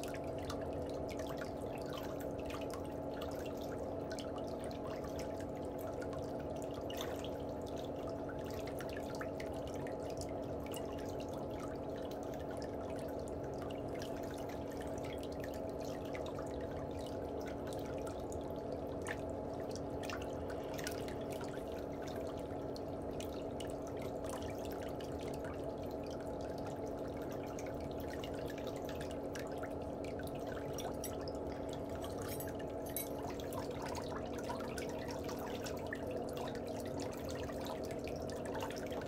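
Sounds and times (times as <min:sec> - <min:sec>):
low even hum: 0:00.0 - 0:39.0
water trickling and dripping: 0:00.0 - 0:39.0.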